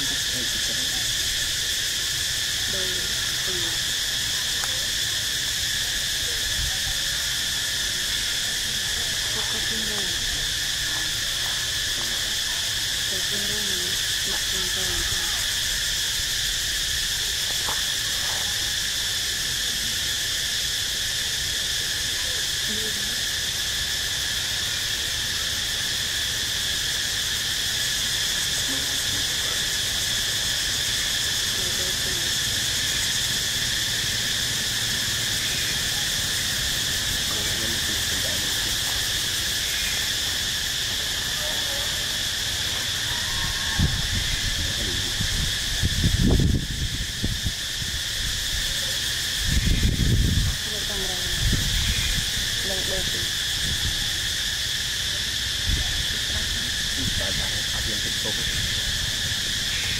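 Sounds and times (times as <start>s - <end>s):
insect chorus chirring: 0.0s - 59.9s.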